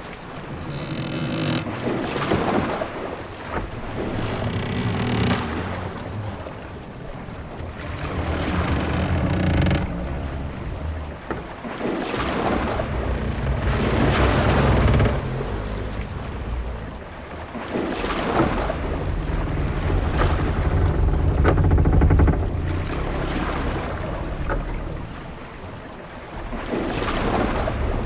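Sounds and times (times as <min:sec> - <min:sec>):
ship timbers creaking: 0:00.0 - 0:28.0
waves washing against hull: 0:00.0 - 0:28.0
low wind rumble: 0:03.2 - 0:28.0.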